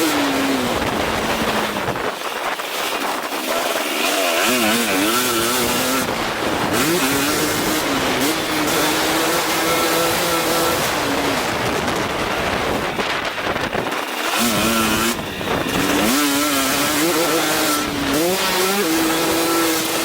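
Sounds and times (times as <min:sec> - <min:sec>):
motorcycle engine revving: 0:00.0 - 0:20.0
wind rushing over microphone: 0:00.0 - 0:20.0.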